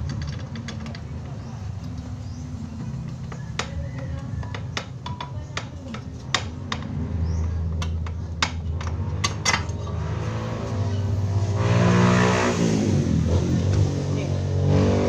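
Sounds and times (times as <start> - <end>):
engine humming and revving: 0.0 - 15.0.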